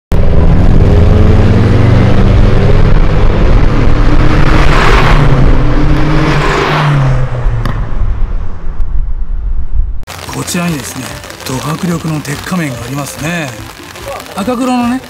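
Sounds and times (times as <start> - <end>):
rush of noise: 0.1 - 14.6.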